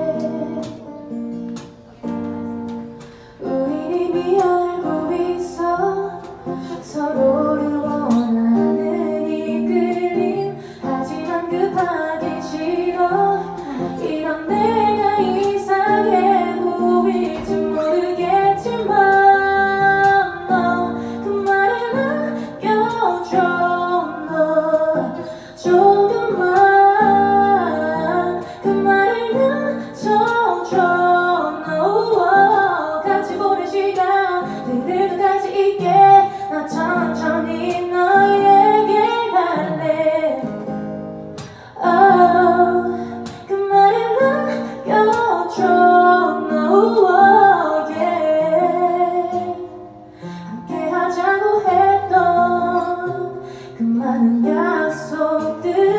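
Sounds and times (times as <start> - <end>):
acoustic guitar: 0.0 - 55.9
woman singing slow song: 0.0 - 55.9.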